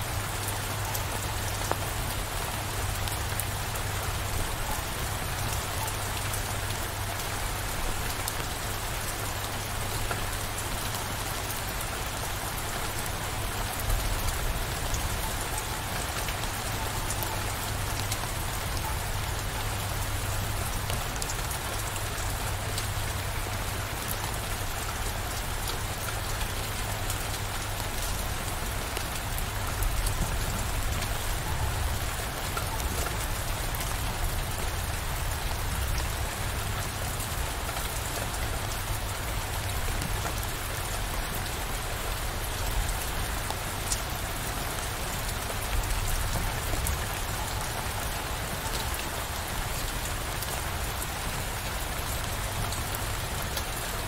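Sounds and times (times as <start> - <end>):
rain pattering on surfaces: 0.0 - 54.0.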